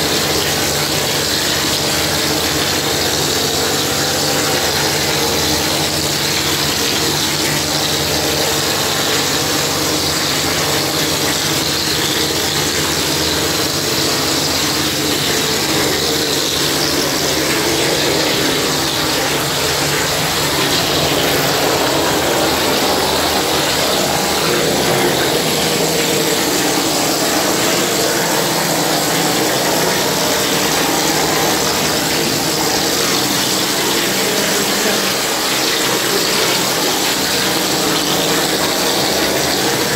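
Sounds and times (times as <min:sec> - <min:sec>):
pump humming: 0:00.0 - 0:39.9.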